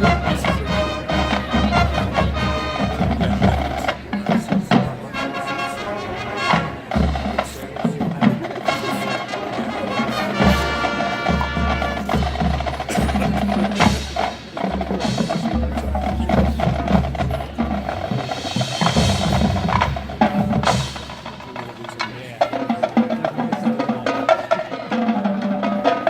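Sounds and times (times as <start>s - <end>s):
drums and pitched percussion: 0.0s - 26.0s.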